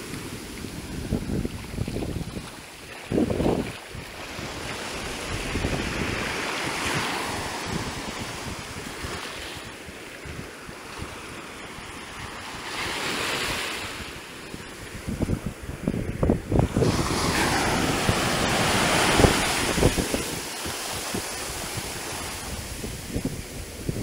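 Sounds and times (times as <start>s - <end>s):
surf washing over sand: 0.0s - 24.0s
wind buffeting microphone: 0.0s - 24.0s.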